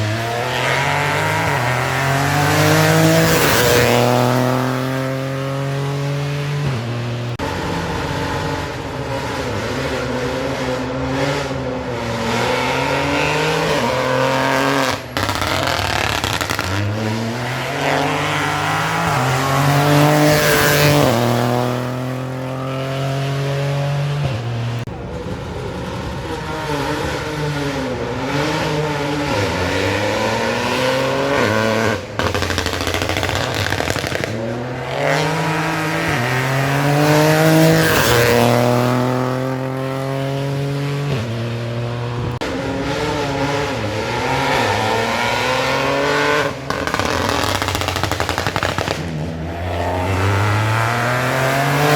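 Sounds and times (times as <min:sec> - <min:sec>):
rally cars accelerating past: 0:00.0 - 0:51.9.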